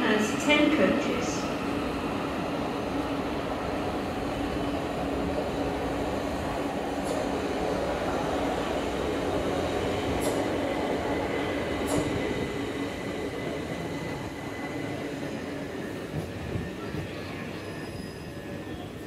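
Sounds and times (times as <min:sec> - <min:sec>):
electric train slowing to a stop: 0:00.0 - 0:19.0.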